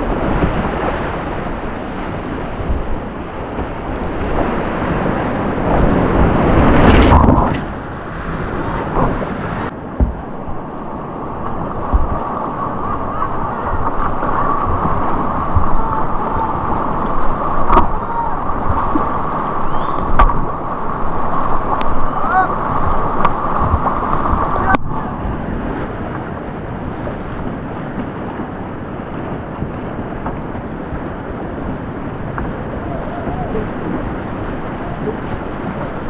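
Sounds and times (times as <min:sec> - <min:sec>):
rushing whitewater: 0:00.0 - 0:36.0
wind buffeting microphone: 0:00.0 - 0:36.0.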